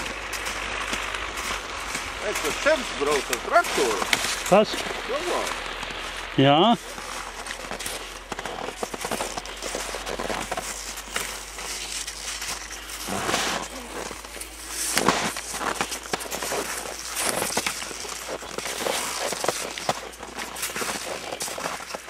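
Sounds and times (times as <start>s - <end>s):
ski poles planting in snow: 0.0s - 22.0s
skis crunching on snow: 0.0s - 22.0s.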